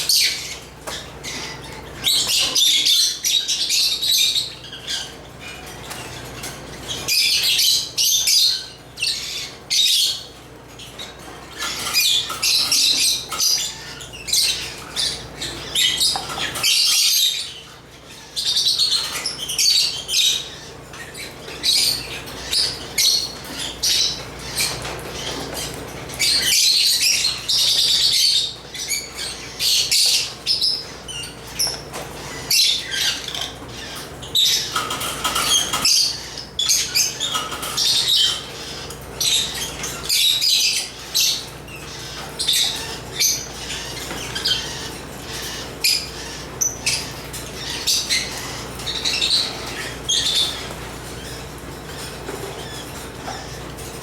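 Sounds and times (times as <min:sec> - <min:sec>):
lovebirds chattering: 0:00.0 - 0:54.0.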